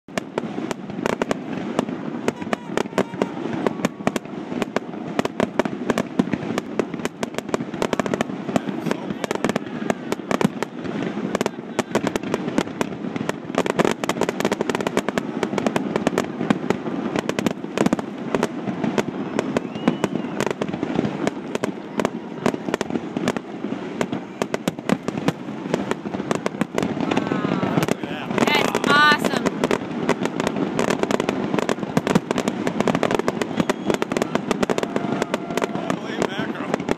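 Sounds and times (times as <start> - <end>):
fireworks bursting: 0.1 - 36.9.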